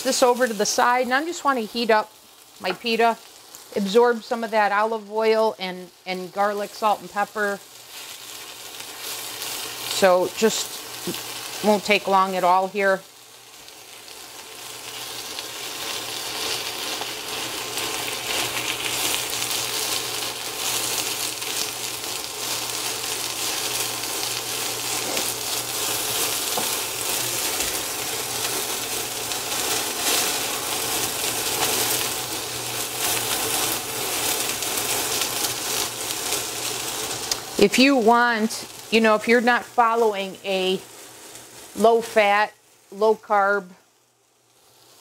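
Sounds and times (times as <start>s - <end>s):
food sizzling in a skillet: 0.0s - 45.0s.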